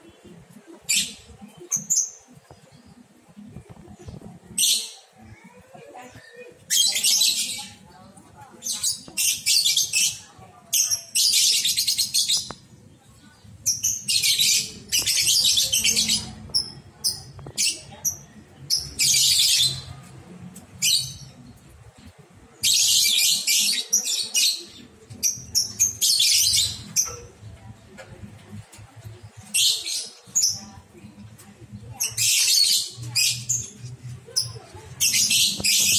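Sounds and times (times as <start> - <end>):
lovebirds chattering: 0.0 - 35.9.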